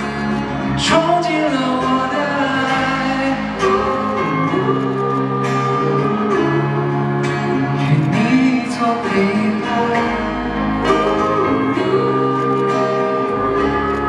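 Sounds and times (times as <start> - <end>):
live band playing a pop ballad: 0.0 - 14.0
man singing: 0.6 - 14.0.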